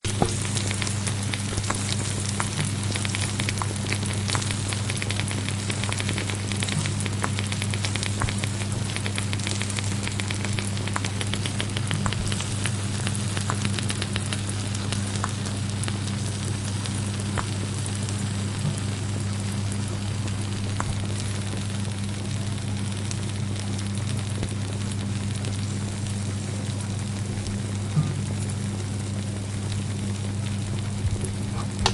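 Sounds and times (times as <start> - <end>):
food sizzling in a hot pan: 0.0 - 31.9.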